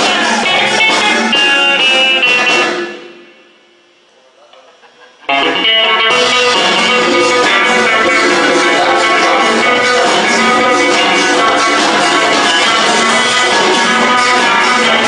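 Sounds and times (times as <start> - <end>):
loud music with guitar and drums: 0.0 - 3.4, 5.2 - 15.0.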